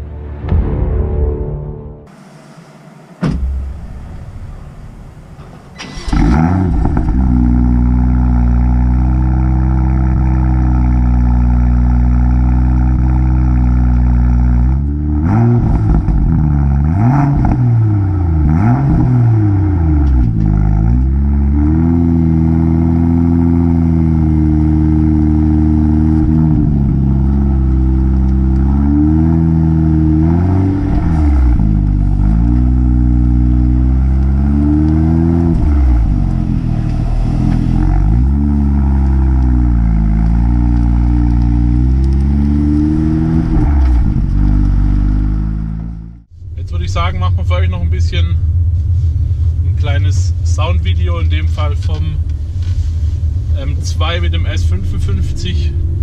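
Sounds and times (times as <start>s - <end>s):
car engine starting and idling: 2.1s - 56.0s
engine throttle blips: 2.1s - 56.0s.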